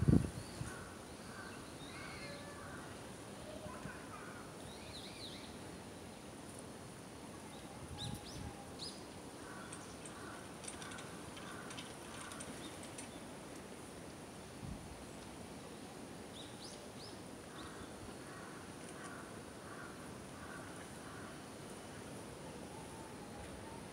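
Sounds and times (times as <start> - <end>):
outdoor background noise: 0.0 - 23.9.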